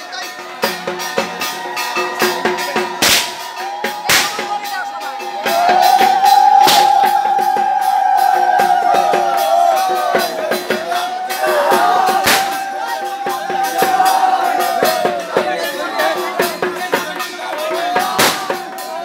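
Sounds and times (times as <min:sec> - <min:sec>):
crowd voices: 0:00.0 - 0:19.0.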